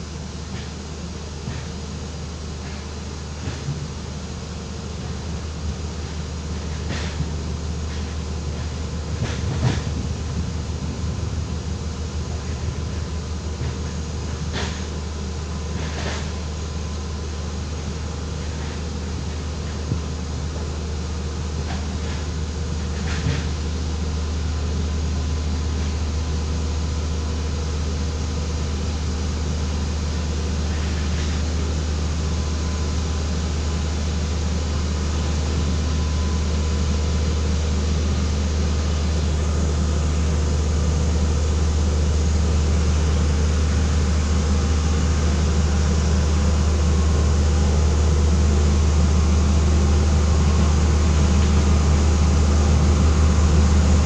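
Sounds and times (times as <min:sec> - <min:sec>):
road roller droning: 0:00.0 - 0:54.0.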